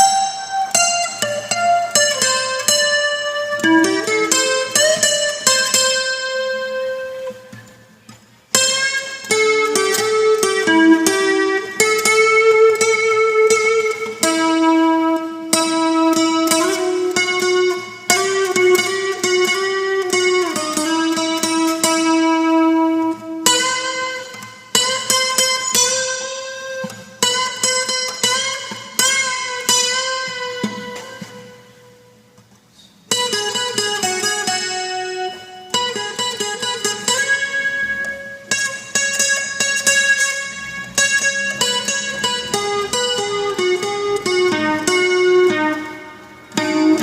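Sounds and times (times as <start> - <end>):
guitar picking single notes: 0.0 - 47.0.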